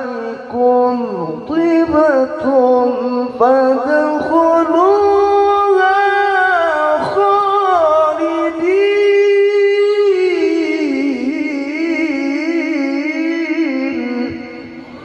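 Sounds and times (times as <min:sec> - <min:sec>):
man chanting into microphone: 0:00.0 - 0:14.9.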